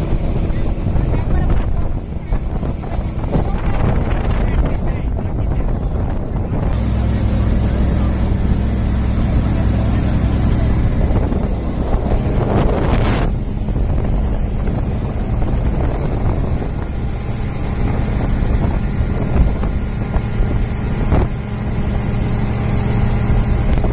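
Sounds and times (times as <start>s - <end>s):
motorboat engine running: 0.0s - 23.9s
water rushing from wake: 0.0s - 23.9s
wind buffeting microphone: 0.0s - 23.9s.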